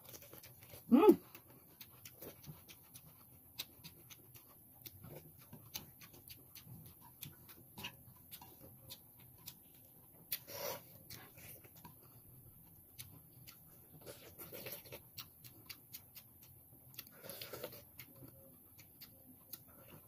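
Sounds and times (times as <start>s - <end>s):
person chewing and smacking: 0.0s - 20.0s.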